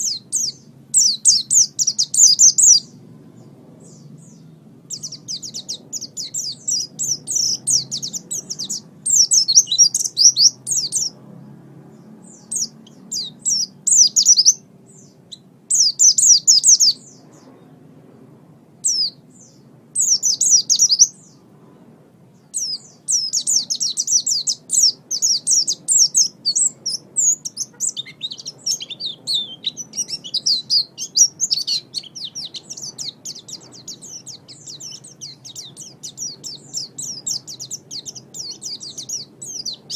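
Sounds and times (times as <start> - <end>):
bird twittering song: 0.0 - 17.9, 18.8 - 39.9.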